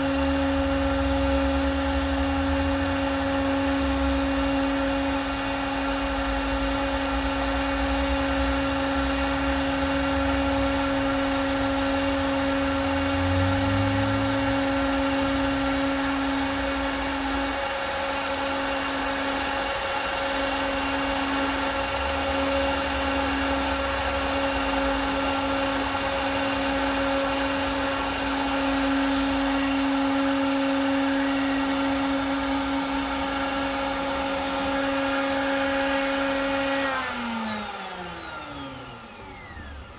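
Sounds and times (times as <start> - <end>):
router whine cutting plywood: 0.0 - 39.9.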